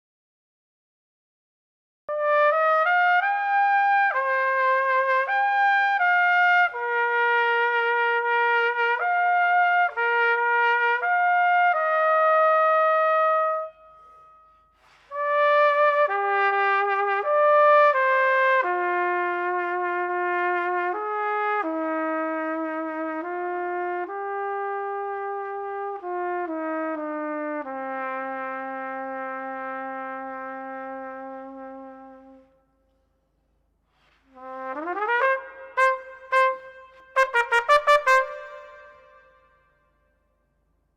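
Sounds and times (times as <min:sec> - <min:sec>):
solo trumpet melody: 0:02.1 - 0:32.6, 0:34.2 - 0:39.8.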